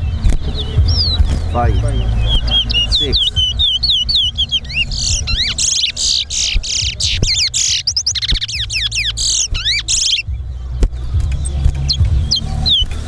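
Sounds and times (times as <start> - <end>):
finch song: 0.0 - 13.0
steady low hum: 0.0 - 13.0.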